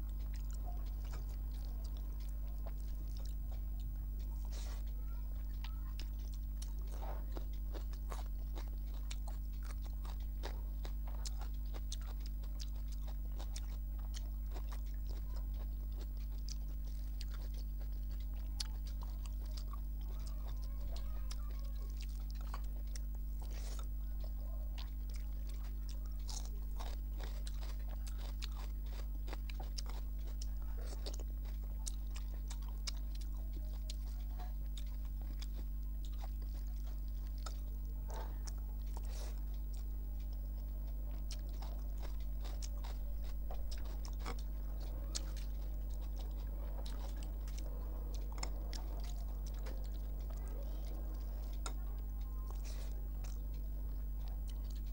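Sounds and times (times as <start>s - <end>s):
chewing and mouth clicks: 0.0s - 54.9s
fingers squishing rice: 0.0s - 54.9s
low electrical hum: 0.0s - 54.9s.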